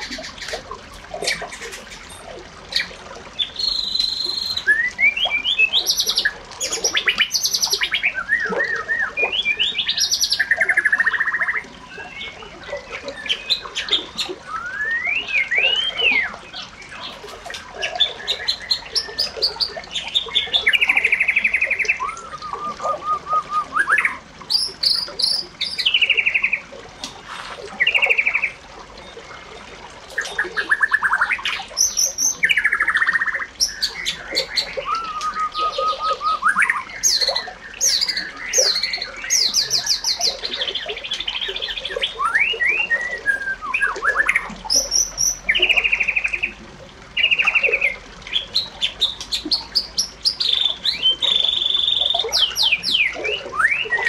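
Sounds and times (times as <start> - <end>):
bird song: 0.0 - 54.0.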